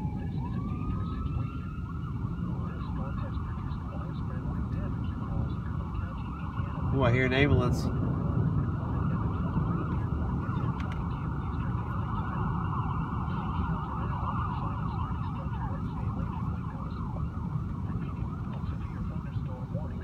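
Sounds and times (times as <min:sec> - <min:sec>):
ambulance siren: 0:00.0 - 0:20.0.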